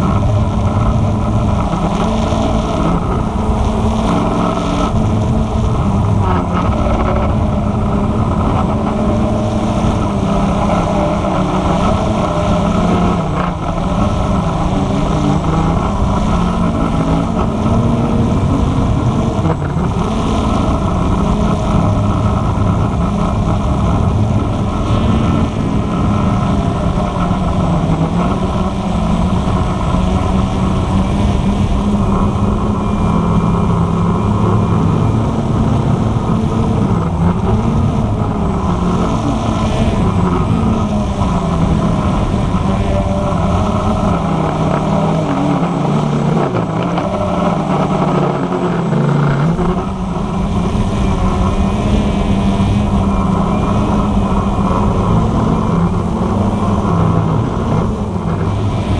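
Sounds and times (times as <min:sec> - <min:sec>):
quadcopter motors buzzing: 0:00.0 - 0:58.9.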